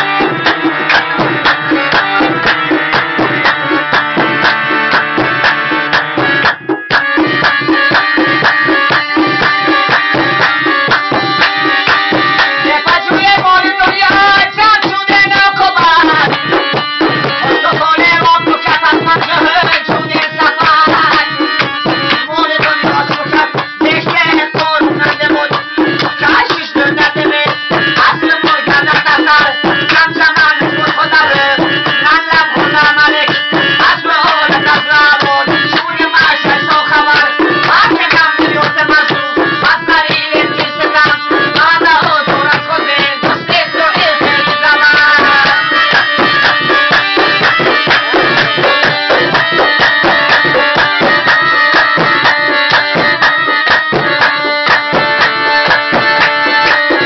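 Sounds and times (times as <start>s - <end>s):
harmonium playing tune: 0.0s - 57.0s.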